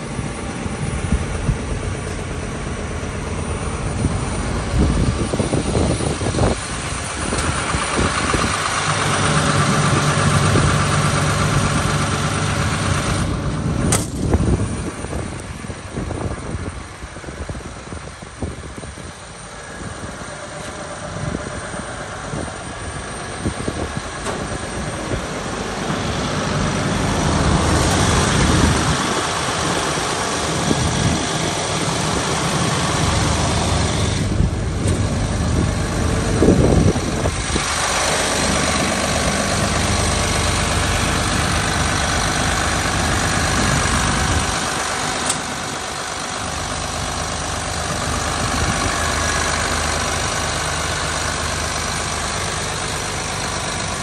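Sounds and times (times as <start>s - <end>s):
excavator diesel engine idling: 0.0s - 54.0s.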